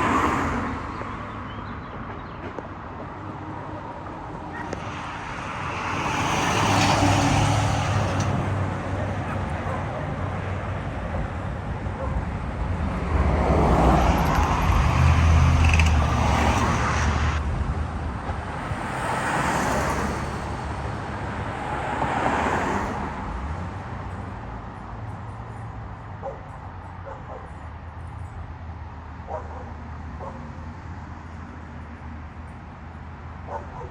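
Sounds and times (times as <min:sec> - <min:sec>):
vehicles passing: 0:00.0 - 0:33.9.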